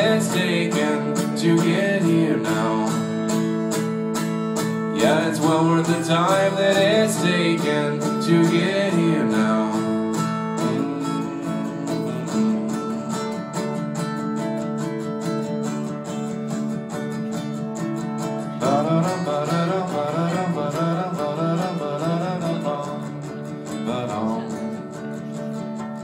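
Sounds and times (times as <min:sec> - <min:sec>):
wordless vocal melody: 0:00.0 - 0:14.8, 0:17.6 - 0:25.7
acoustic guitar strumming: 0:00.0 - 0:26.0.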